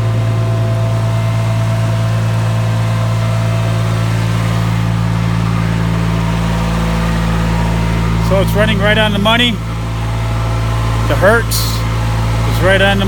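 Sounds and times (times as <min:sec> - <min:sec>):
generator low hum: 0:00.0 - 0:13.0
tractor diesel engine running: 0:00.0 - 0:13.0.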